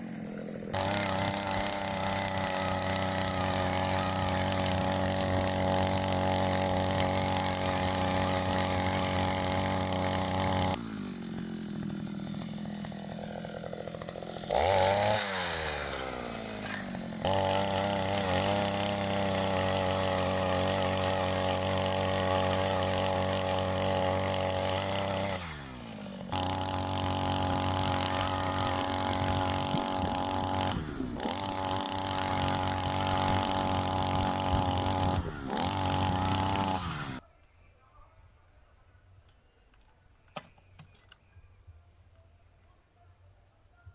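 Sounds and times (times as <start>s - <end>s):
small petrol engine revving: 0.0s - 37.2s.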